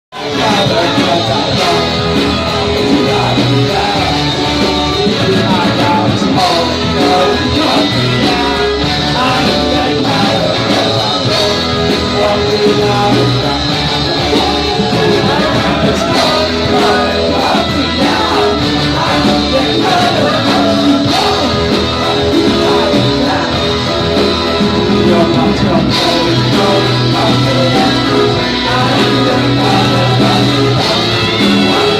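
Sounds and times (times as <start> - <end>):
electric guitar: 0.1 - 31.9
live rock band playing: 0.1 - 31.9
person singing: 0.1 - 31.9.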